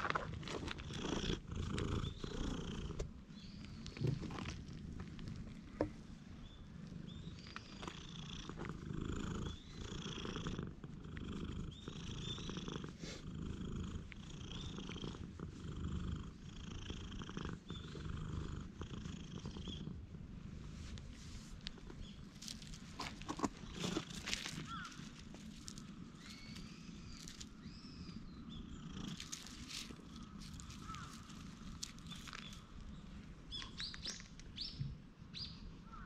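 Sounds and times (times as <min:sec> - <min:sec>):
cat purring: 0:00.0 - 0:33.4.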